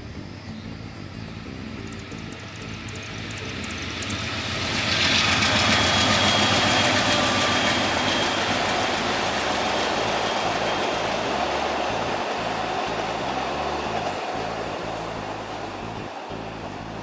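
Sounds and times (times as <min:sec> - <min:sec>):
high steady whine: 0:00.0 - 0:17.0
passenger train rolling on rails: 0:00.0 - 0:17.0.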